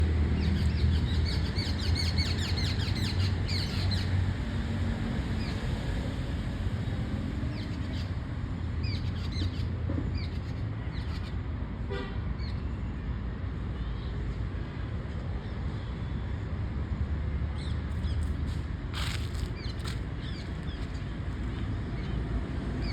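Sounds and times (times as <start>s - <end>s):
low rumble of traffic: 0.0s - 22.9s.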